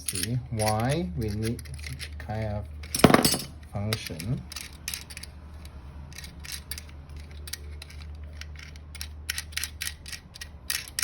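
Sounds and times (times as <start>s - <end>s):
metallic lock clicks and rattles: 0.0s - 11.0s.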